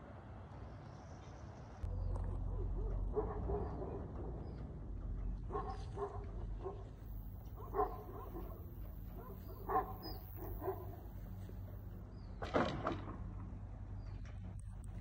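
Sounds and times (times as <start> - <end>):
steady low hum: 1.7 - 15.0.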